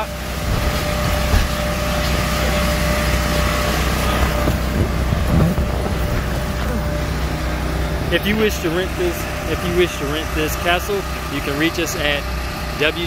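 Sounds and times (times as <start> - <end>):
blower fan humming: 0.0 - 13.0.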